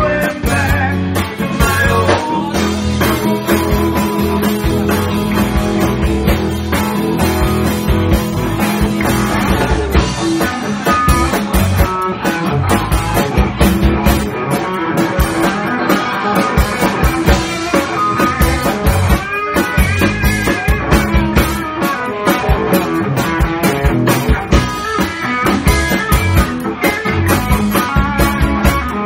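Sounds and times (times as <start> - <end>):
electric guitar bending notes: 0.0 - 29.0
live band playing bluesy rock: 0.0 - 29.0.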